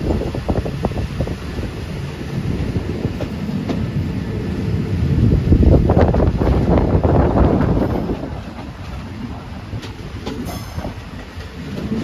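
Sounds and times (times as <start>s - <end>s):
train wheels rattling over rails: 0.0s - 12.0s
wind buffeting microphone: 0.0s - 12.0s.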